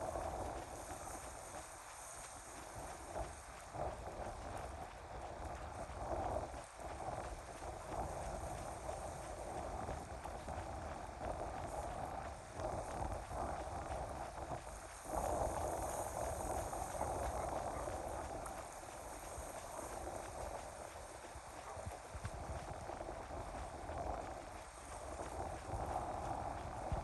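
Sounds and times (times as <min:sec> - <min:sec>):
choppy lake water: 0:00.0 - 0:27.0
wind rumbling on microphone: 0:00.0 - 0:27.0.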